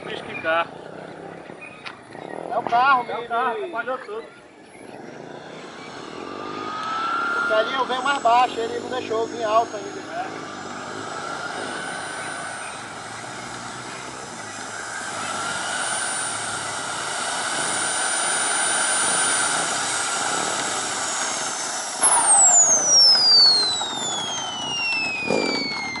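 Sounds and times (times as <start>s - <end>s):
jet turbine whining: 0.0s - 26.0s.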